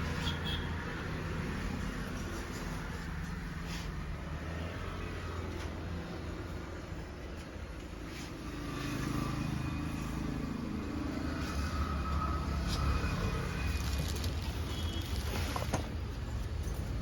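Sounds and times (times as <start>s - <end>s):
low rumble of road traffic: 0.0s - 17.0s.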